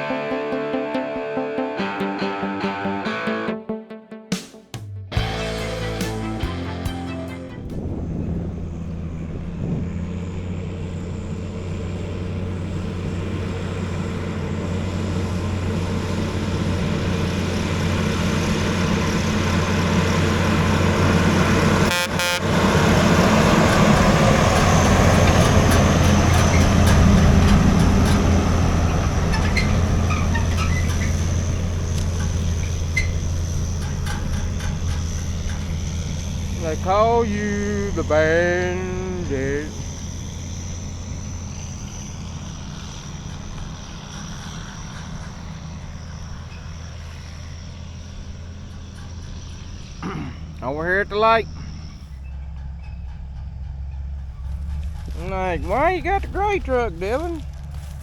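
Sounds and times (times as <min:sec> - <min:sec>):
heavy truck engine running: 0:04.9 - 0:58.0.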